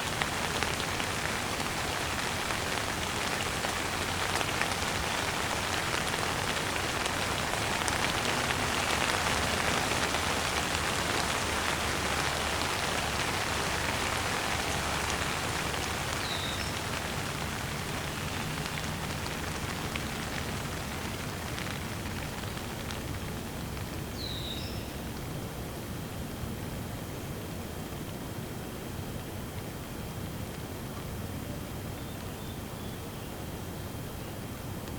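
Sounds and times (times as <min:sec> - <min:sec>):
rain pattering: 0:00.0 - 0:32.8.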